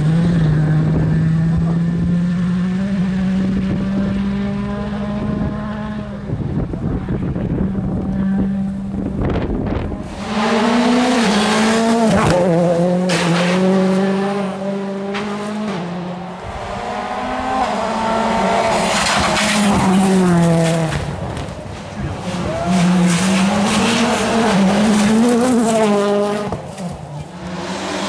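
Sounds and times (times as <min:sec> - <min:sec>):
rally cars at full throttle: 0:00.0 - 0:28.0.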